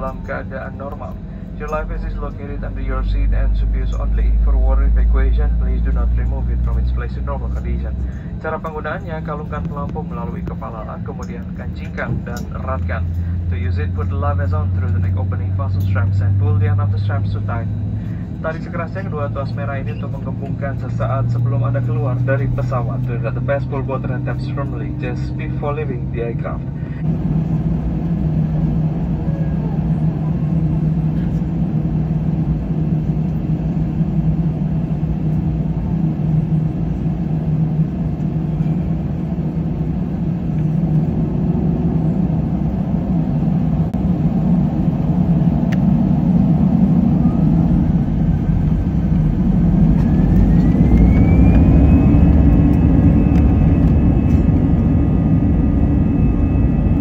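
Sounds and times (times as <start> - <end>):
jet engine whine rising: 0.0 - 57.0
jet engines rumbling: 0.0 - 57.0.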